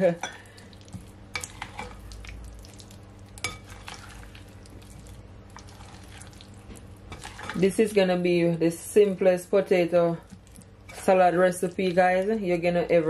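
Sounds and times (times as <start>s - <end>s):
soft wet stirring: 0.1s - 8.0s, 10.2s - 13.0s.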